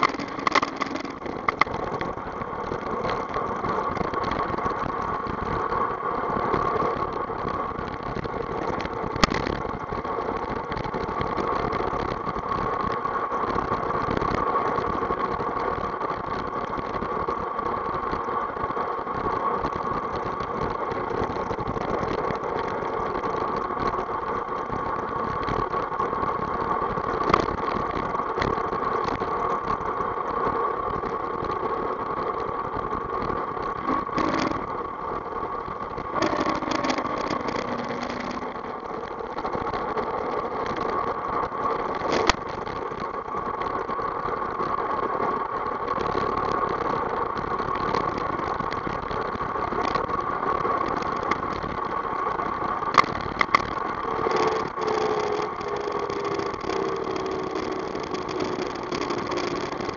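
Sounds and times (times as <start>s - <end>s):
tyres rolling on asphalt: 0.0s - 59.9s
wind noise: 0.0s - 59.9s.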